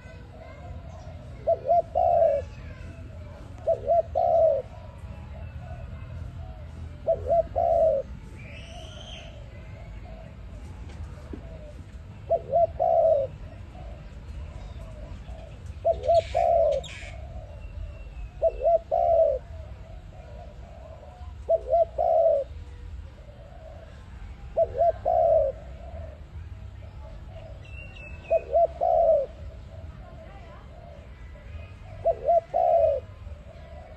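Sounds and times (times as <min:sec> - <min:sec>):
bird chirp: 0:00.0 - 0:10.4, 0:12.2 - 0:22.8, 0:26.7 - 0:33.0
dove cooing: 0:00.0 - 0:33.9
low background hum: 0:00.0 - 0:33.9.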